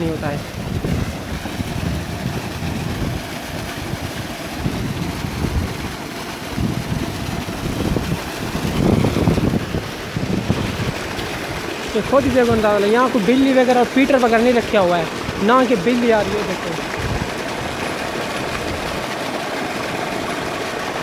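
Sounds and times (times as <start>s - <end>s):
wind buffeting microphone: 0.0s - 19.2s
water gushing and splashing: 0.0s - 21.0s.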